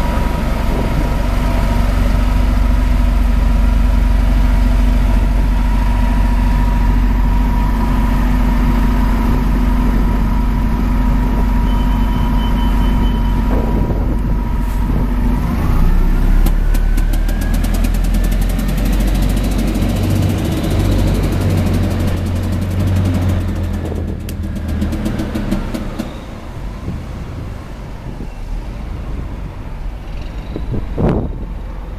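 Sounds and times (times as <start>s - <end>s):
bus diesel engine: 0.0s - 31.9s.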